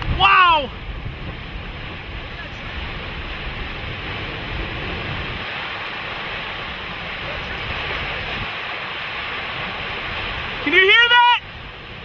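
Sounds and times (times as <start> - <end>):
strong wind roaring: 0.0 - 12.0
wind buffeting microphone: 0.0 - 12.0.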